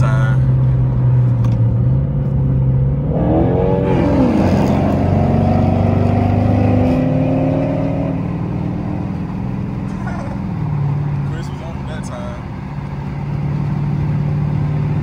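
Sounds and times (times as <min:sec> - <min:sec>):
car engine revving and passing: 0:00.4 - 0:15.0.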